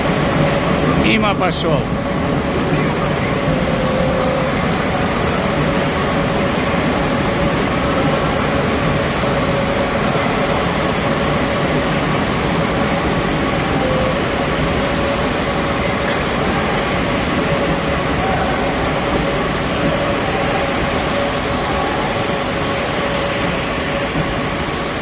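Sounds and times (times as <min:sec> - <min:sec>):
faint steady whine: 0:00.0 - 0:25.0
metro train wheels rumbling: 0:00.0 - 0:25.0.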